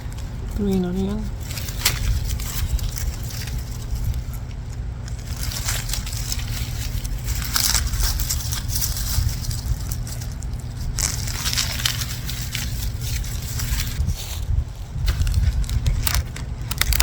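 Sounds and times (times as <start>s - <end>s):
green onions crunching and rustling: 0.0s - 17.0s
low rumble: 0.0s - 17.0s.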